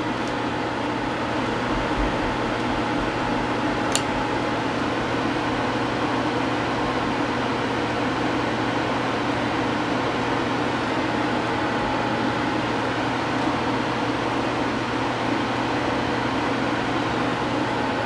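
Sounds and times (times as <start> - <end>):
machine hum and hiss: 0.0 - 18.0.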